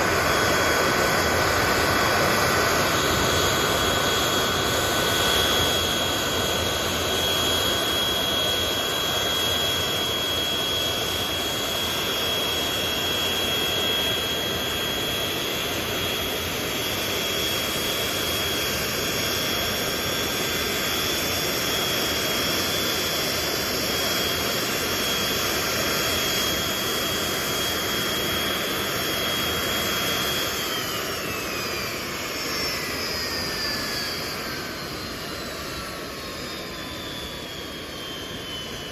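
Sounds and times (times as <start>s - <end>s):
jet engines roaring with whine: 0.0s - 38.9s.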